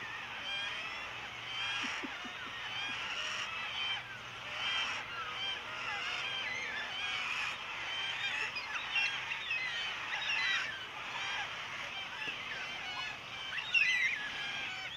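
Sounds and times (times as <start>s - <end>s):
flock of birds calling: 0.0s - 14.9s.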